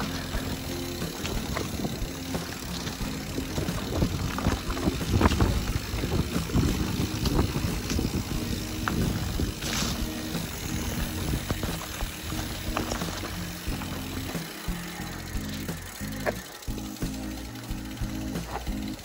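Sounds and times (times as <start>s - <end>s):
bike knocks and rattles: 0.0s - 19.0s
bike tyres on dirt trail: 0.0s - 19.0s.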